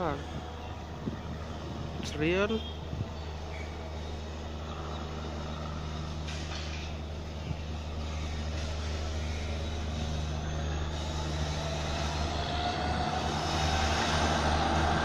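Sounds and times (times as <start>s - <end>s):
locomotive engine drone: 0.0s - 15.0s.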